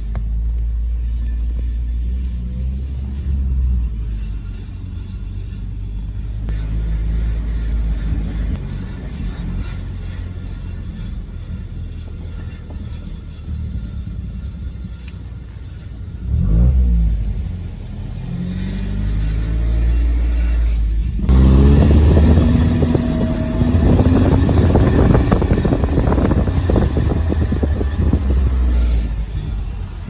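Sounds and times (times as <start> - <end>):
brake scraping and rasping: 0.0 - 30.0
car rolling: 0.0 - 30.0.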